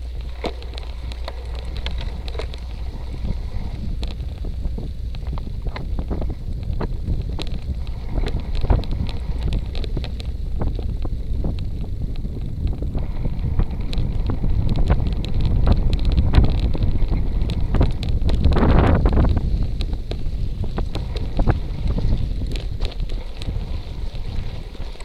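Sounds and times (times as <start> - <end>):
bike clicks and knocks: 0.0 - 25.0
tyres rolling over gravel: 0.0 - 25.0
wind buffeting microphone: 0.0 - 25.0.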